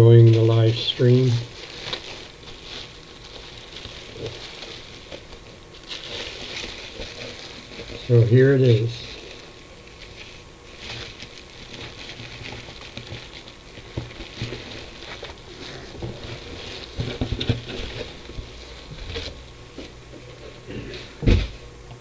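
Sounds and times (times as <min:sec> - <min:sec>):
box rustling: 0:00.0 - 0:21.6.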